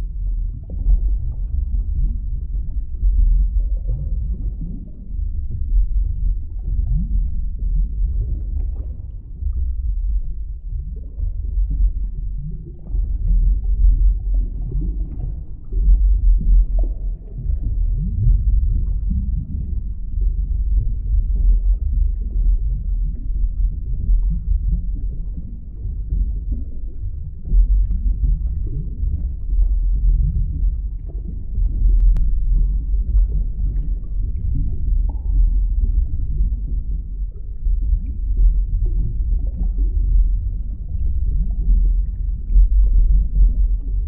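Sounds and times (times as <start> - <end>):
deep underwater rumble: 0.0 - 44.0.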